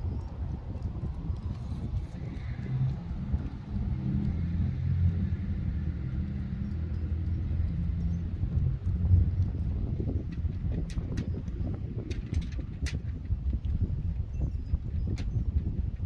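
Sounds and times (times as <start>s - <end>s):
low engine hum with rumble: 0.0s - 16.0s.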